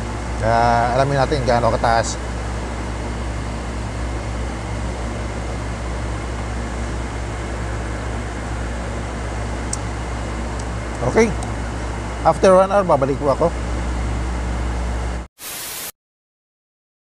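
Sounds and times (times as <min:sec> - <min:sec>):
steady low hum: 0:00.0 - 0:15.3.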